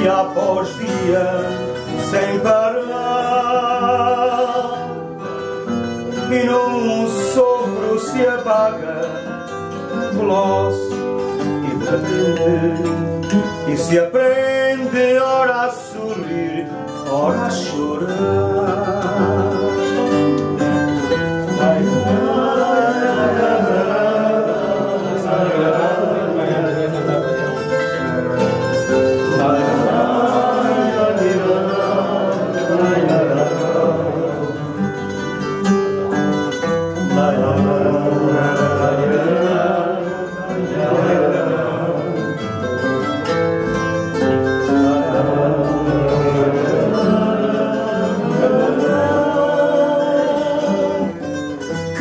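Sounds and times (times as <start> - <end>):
guitars playing instrumental: 0.0 - 52.0.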